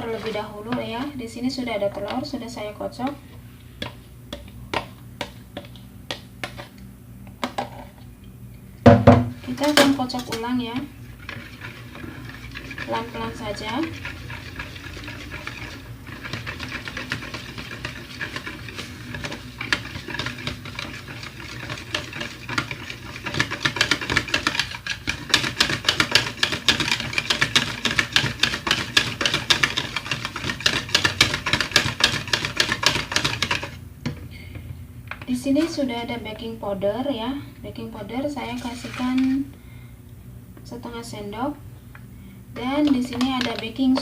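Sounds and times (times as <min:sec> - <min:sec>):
utensil beating batter in bowl: 0:00.0 - 0:07.9, 0:08.9 - 0:37.1, 0:37.7 - 0:39.6, 0:42.5 - 0:44.0.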